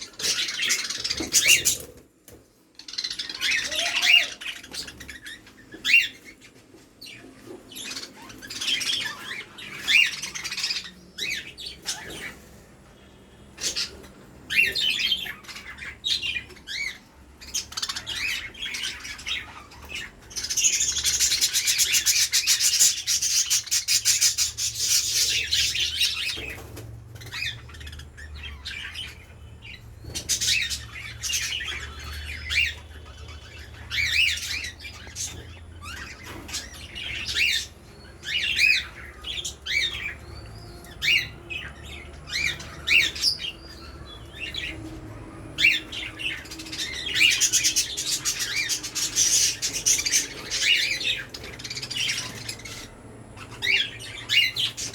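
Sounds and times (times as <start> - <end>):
budgerigars chirping and squawking: 0.0 - 54.9.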